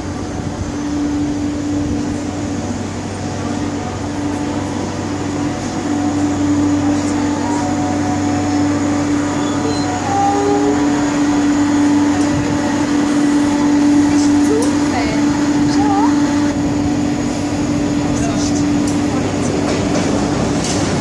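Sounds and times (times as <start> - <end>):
low steady drone: 0.0 - 18.4
train electric hum: 0.0 - 21.0.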